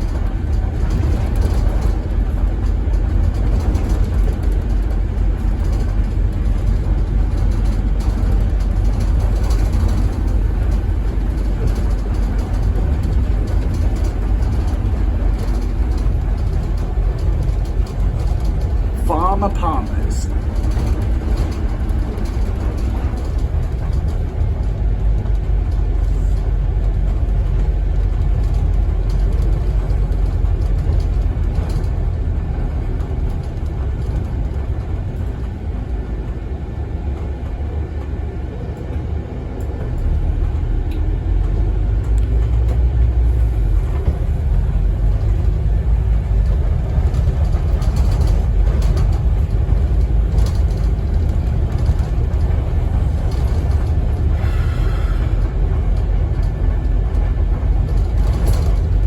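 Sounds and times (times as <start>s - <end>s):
bus diesel engine: 0.0s - 59.0s
road rumble inside bus: 0.0s - 59.0s.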